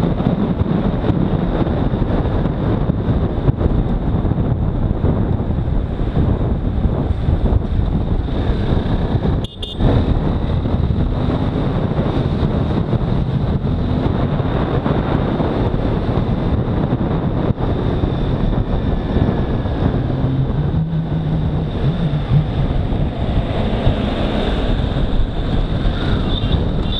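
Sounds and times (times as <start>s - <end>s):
wind rushing on microphone: 0.0s - 26.9s
motorcycle engine droning: 0.1s - 26.9s.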